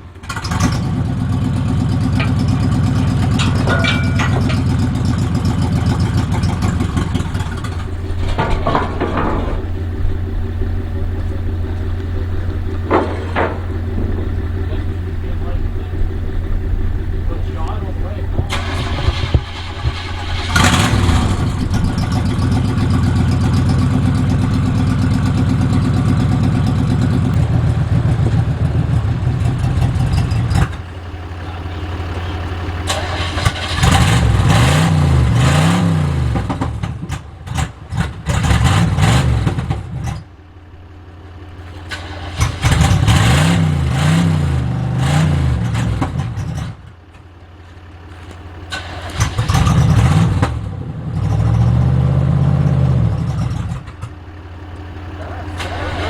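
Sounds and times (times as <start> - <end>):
motorhome engine droning and revving: 0.0 - 56.0.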